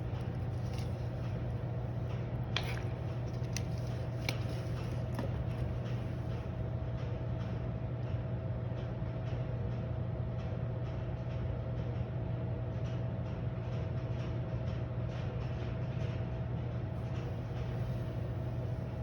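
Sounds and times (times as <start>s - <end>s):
electrical hum and fan noise: 0.0s - 19.0s.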